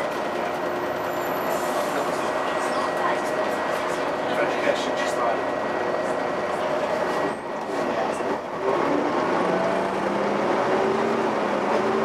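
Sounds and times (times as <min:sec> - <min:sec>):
bus running: 0:00.0 - 0:12.0.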